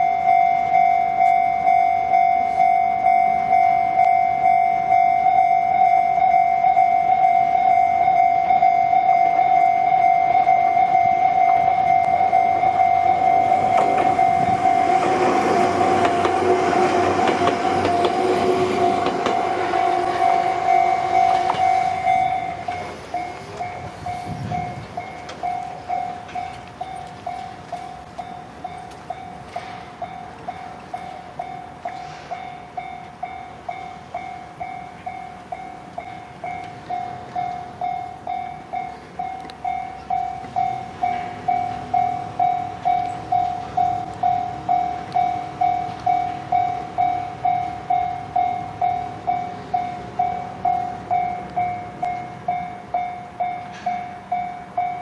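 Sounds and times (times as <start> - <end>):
level-crossing bell dinging: 0.0 - 16.1, 17.7 - 55.0
train rumbling and clattering: 6.9 - 55.0.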